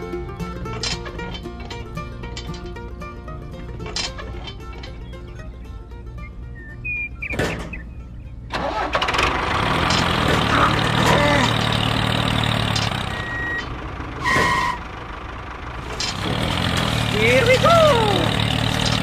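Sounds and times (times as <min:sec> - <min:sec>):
engine cranking and running: 0:00.0 - 0:19.0.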